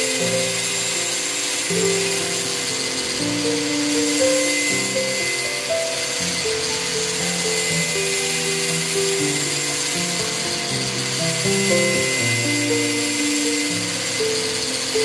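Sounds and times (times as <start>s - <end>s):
angle grinder grinding steel: 0.0s - 15.0s
background music melody: 0.0s - 15.0s.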